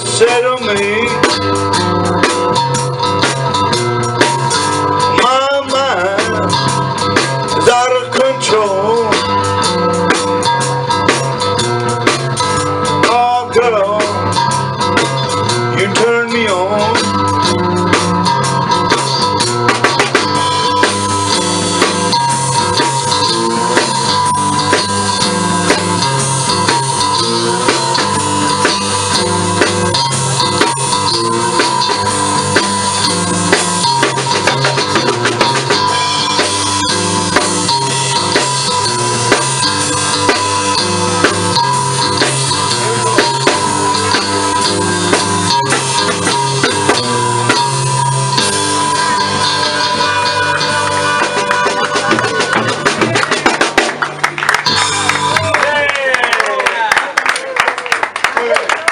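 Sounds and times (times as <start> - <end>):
low bass line: 0.0 - 55.8
drum kit beat: 0.0 - 57.1
electric guitar: 0.0 - 58.9.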